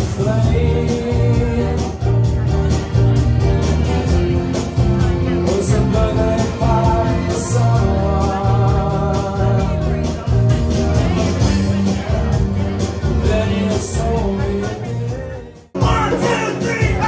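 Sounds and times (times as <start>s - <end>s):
drum kit beat: 0.0s - 17.0s
strummed acoustic guitars: 0.0s - 17.0s.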